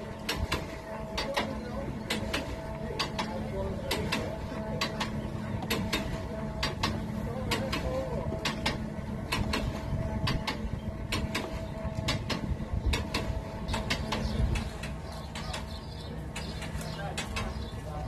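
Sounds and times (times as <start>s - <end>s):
steady hum: 0.0s - 18.0s
sharp clicks: 0.2s - 17.7s.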